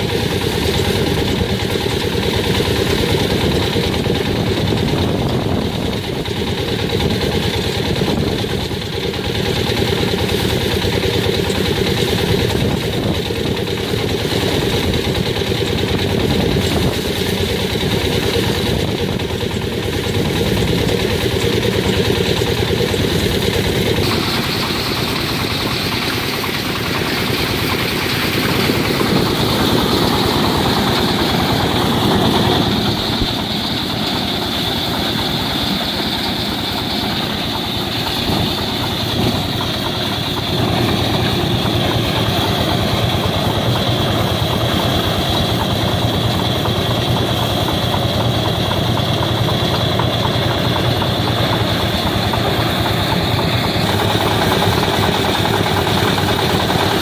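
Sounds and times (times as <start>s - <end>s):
thresher machine running: 0.0s - 57.0s.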